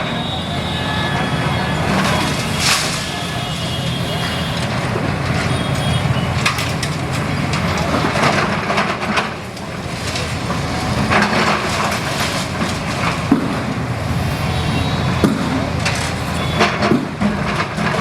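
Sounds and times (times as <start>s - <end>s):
excavator diesel engine running: 0.0s - 18.0s
rubble and wood cracking: 1.2s - 3.3s, 4.2s - 14.0s, 15.1s - 18.0s.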